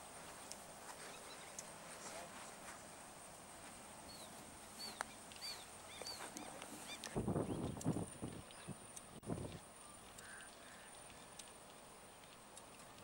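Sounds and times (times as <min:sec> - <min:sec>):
birds chirping: 0:00.3 - 0:13.0.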